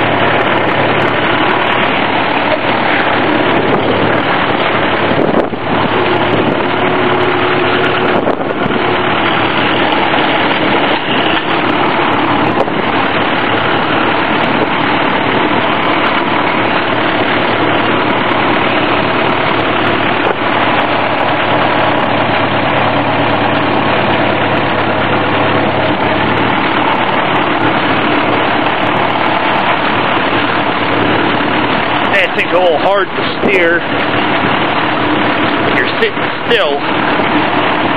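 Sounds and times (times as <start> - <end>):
tractor engine idling: 0.0 - 37.9.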